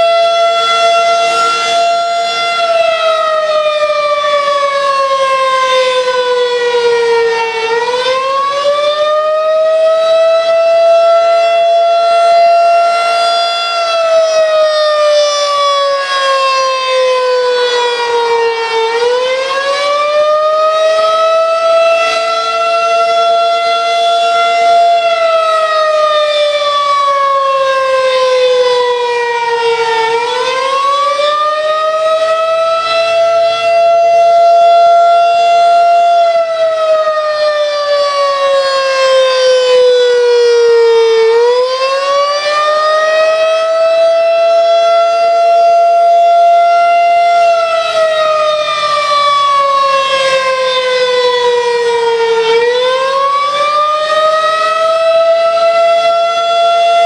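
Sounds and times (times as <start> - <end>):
rotating siren wailing: 0.0 - 57.0.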